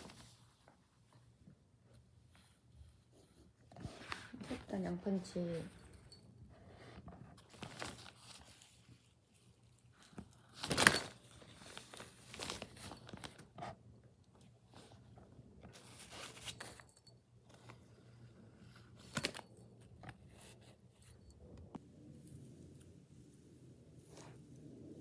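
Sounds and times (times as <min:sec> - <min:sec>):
crinkly material rustling: 0:00.0 - 0:21.5.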